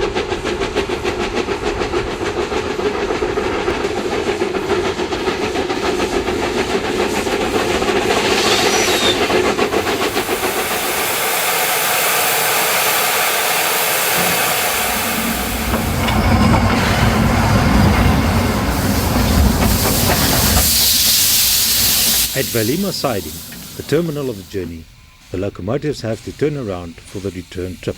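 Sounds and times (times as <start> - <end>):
hissing steam: 0.0 - 27.9
rail noise: 0.0 - 27.9
steam locomotive chuffing: 0.0 - 27.9.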